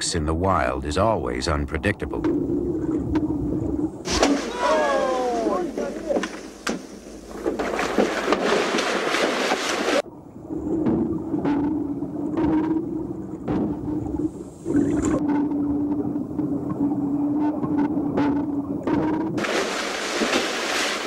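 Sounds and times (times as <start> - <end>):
underwater low hum: 2.0 - 20.8.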